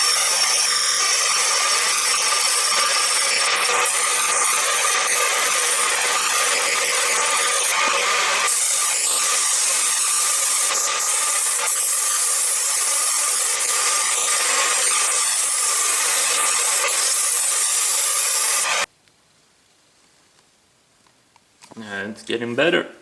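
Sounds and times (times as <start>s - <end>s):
hand sanding abrasive rasp: 0.0s - 18.9s.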